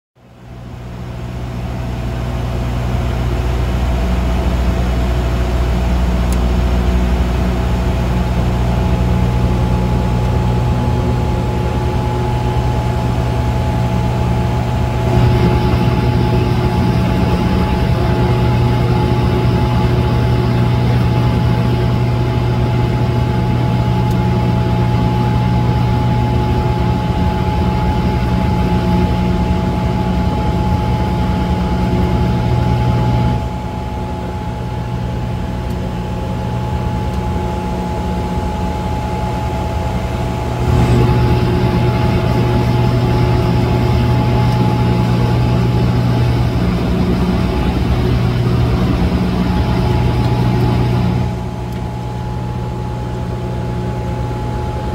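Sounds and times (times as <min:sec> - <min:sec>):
turboprop engines droning: 0:00.2 - 0:54.9.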